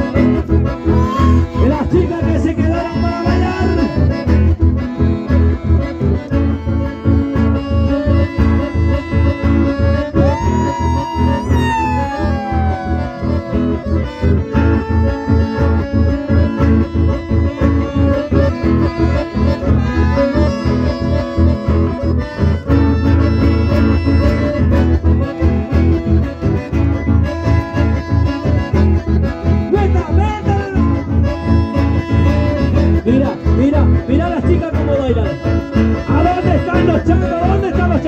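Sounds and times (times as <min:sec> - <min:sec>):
acoustic guitar accompaniment: 0:00.0 - 0:38.0
button accordions playing melody: 0:00.0 - 0:38.0.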